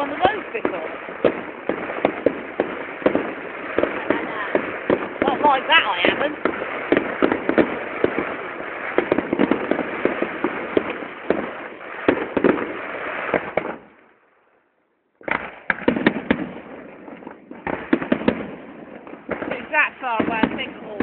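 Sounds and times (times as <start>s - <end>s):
fireworks bangs and crackling: 0.0s - 14.3s, 15.2s - 21.0s.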